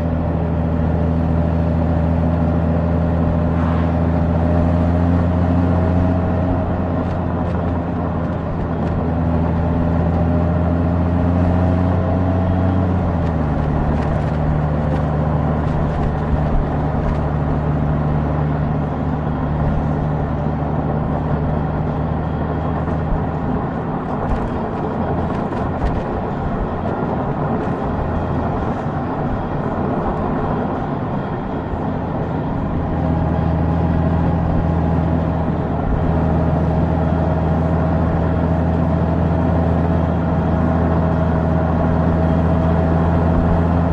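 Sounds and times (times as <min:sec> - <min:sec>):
wind and road noise: 0:00.0 - 0:43.9.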